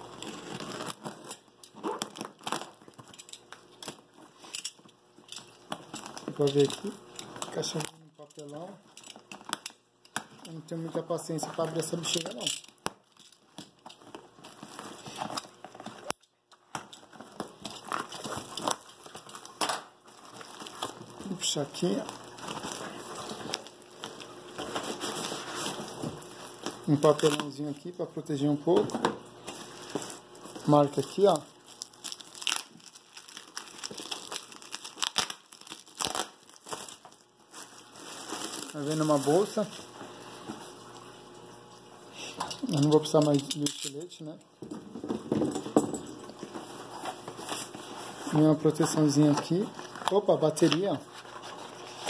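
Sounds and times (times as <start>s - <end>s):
plastic wrap crinkling: 0.0s - 52.0s.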